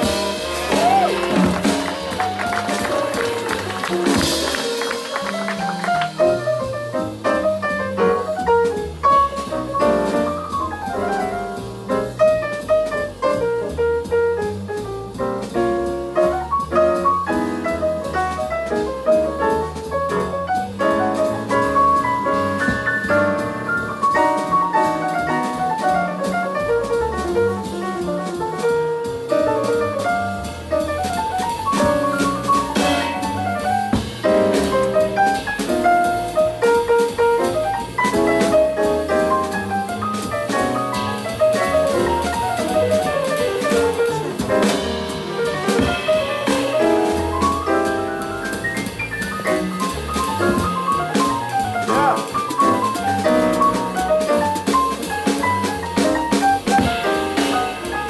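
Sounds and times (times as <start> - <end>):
drum kit: 0.0 - 58.0
piano playing quick runs: 0.0 - 58.0
upright double bass: 0.0 - 58.0.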